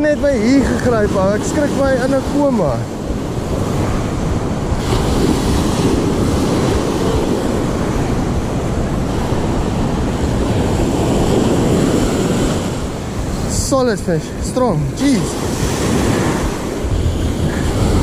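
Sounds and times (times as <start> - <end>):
surf washing over sand: 0.0 - 18.0
wind buffeting microphone: 0.0 - 18.0.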